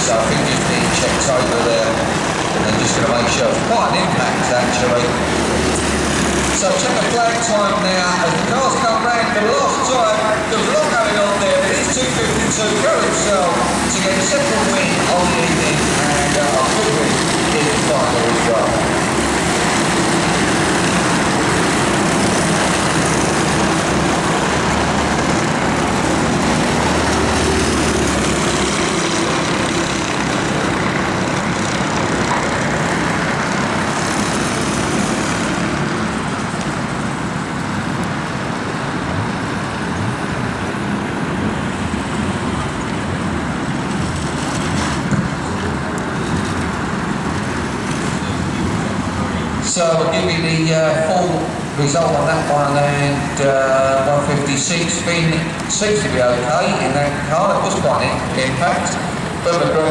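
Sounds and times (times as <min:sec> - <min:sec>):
race car engines droning: 0:00.0 - 0:59.9.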